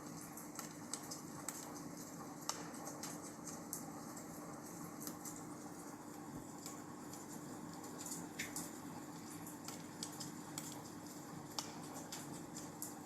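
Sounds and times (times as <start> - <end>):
faint steady hum: 0.0 - 13.0
wood fire crackling: 0.0 - 13.0.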